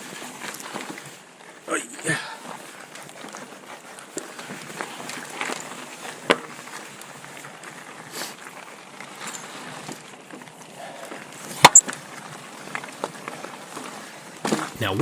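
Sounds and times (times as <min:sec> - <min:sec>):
tyre and wind noise: 0:00.0 - 0:15.0
bike knocks and clacks: 0:02.4 - 0:14.8.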